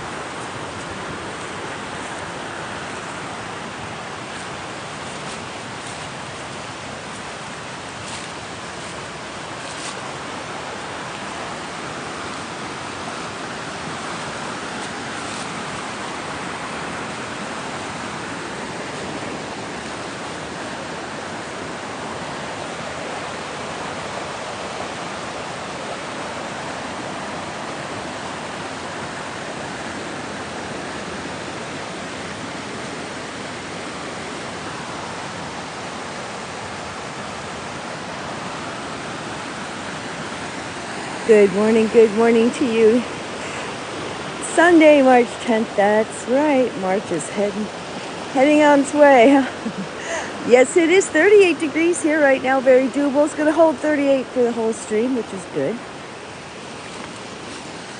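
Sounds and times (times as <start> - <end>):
river rushing: 0.0 - 57.9.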